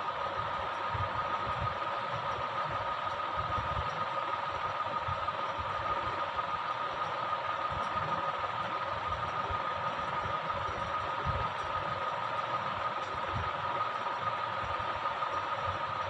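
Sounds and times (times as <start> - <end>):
constant high hum: 0.0 - 16.0.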